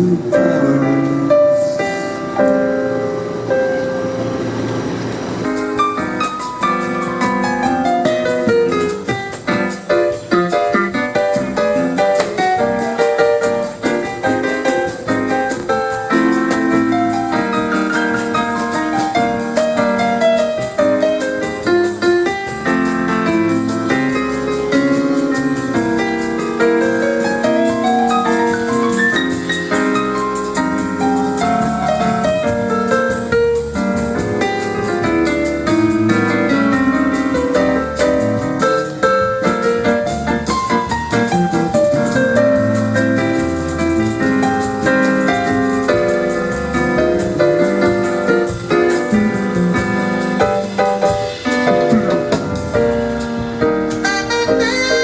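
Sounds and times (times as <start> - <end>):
jazz bass and drums: 0.0 - 55.0
piano melody: 0.0 - 55.0.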